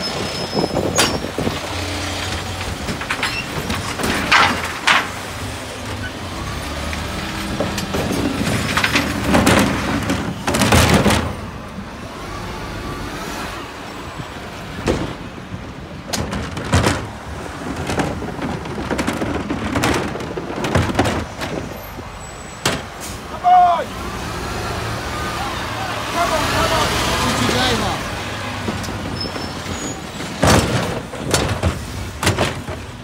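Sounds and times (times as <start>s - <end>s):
road vehicle rumble: 0.0s - 33.0s.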